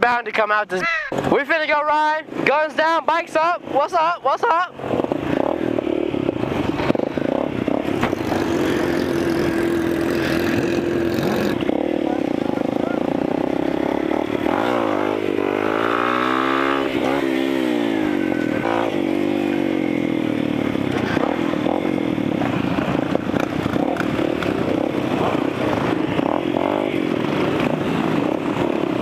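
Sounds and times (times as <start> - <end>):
drone of many engines: 2.2 - 29.0
motorcycle engine revving: 4.7 - 29.0.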